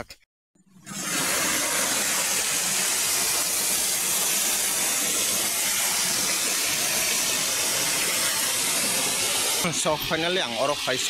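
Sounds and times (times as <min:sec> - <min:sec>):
waterfall splashing onto rocks: 0:01.0 - 0:11.0.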